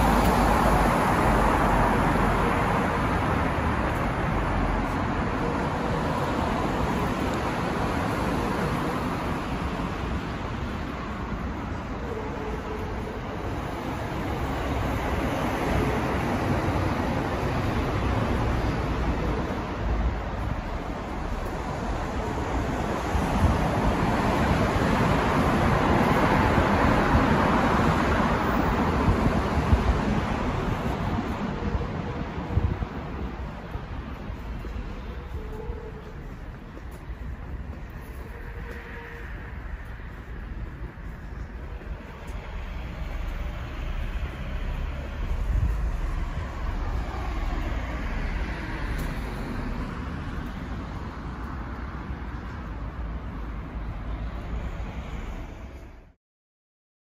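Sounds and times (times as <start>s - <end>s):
city street traffic: 0.0s - 56.2s.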